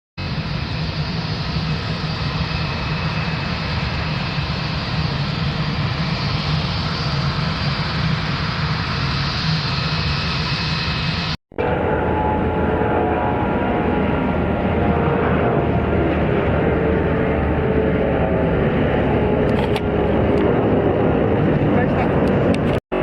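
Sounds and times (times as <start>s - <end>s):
jet engines idling: 0.2s - 23.0s.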